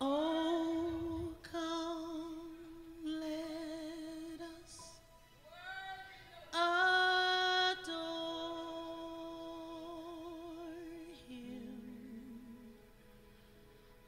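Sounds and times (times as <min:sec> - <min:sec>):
woman singing with vibrato: 0:00.0 - 0:12.7.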